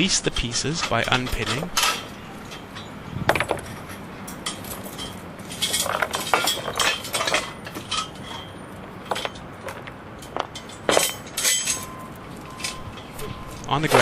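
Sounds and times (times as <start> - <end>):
metal parts clinking and knocking: 0.8 - 14.0.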